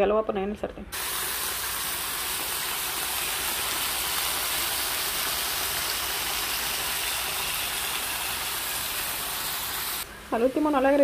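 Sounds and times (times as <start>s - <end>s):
fish sizzling in oil: 1.0s - 11.0s.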